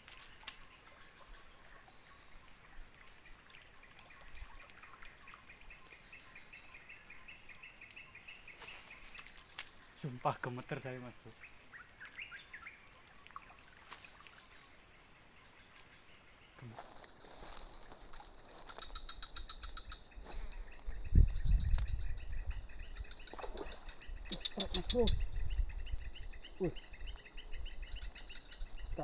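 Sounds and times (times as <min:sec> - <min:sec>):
insect chorus buzzing: 0:00.0 - 0:29.0.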